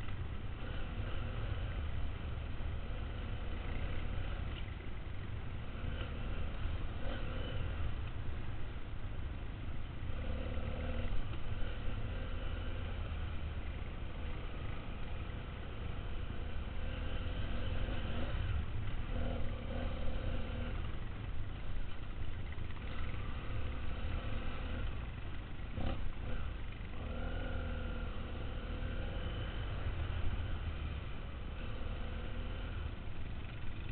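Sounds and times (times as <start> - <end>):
motorcycle engine revving: 0.0 - 4.8, 5.5 - 8.2, 10.0 - 21.9, 22.5 - 33.9.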